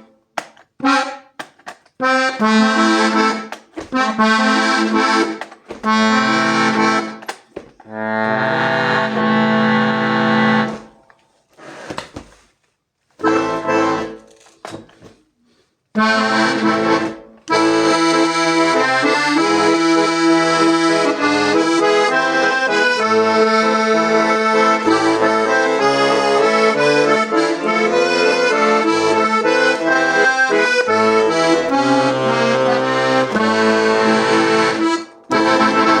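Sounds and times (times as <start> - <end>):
accordion playing: 0.0 - 11.8, 13.2 - 14.5, 15.9 - 36.0.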